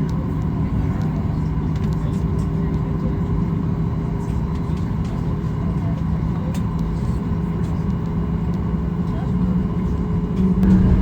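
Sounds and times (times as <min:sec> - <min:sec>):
airplane cabin drone: 0:00.1 - 0:11.0.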